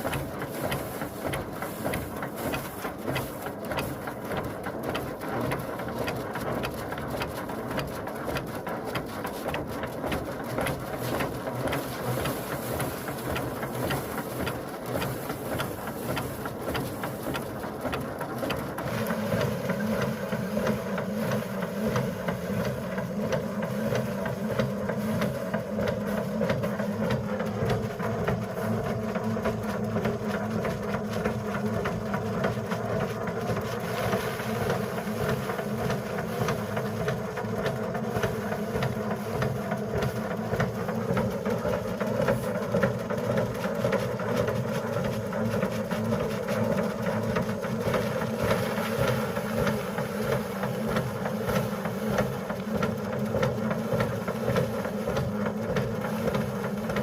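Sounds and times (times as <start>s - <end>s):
motor running under load: 7.6s - 57.0s.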